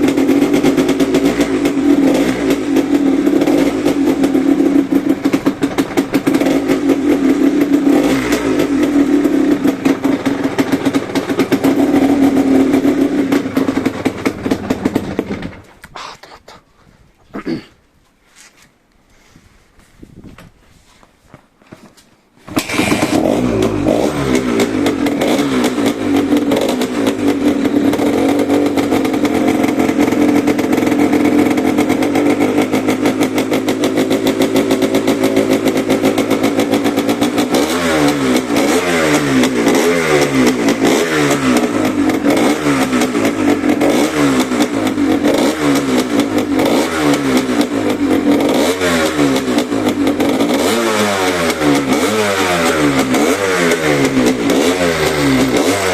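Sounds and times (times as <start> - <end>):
engine revving: 0.0 - 15.8, 22.5 - 55.9
two-stroke motorcycle engine running: 0.0 - 15.8, 22.5 - 55.9.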